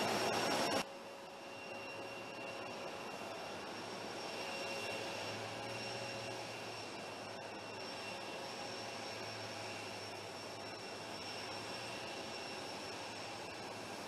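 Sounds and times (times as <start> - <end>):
jet engine hiss and whistle: 0.0 - 14.0.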